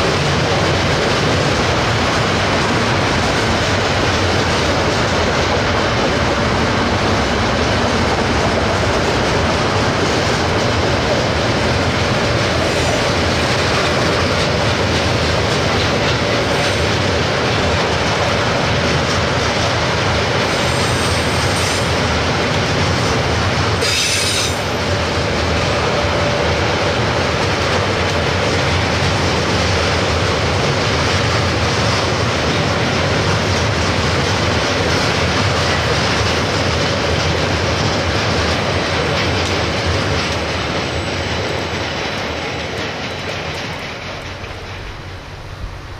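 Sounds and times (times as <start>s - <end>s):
train wheels rumbling and clattering: 0.0s - 45.9s.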